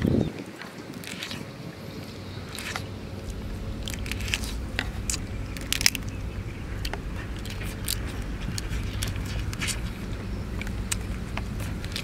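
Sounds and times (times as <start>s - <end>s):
low steady rumble: 0.0s - 12.0s
man chewing crab shell cracking: 0.6s - 12.0s.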